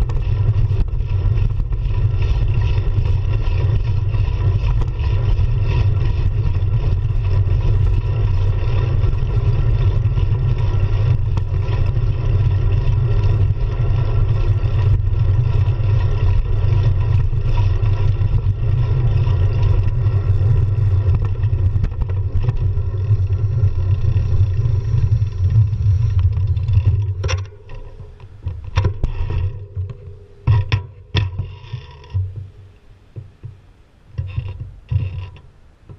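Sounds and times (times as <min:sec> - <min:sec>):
tyre and road noise: 0:00.0 - 0:35.9.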